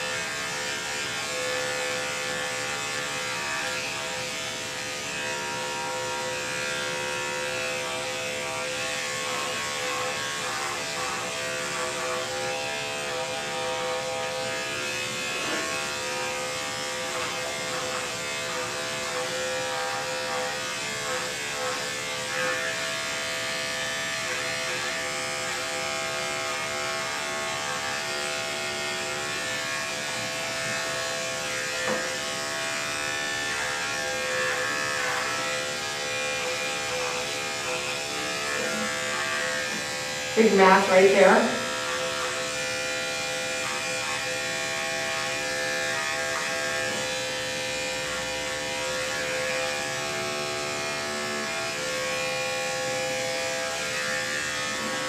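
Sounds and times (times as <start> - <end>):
electric dog clipper humming: 0.0 - 55.0.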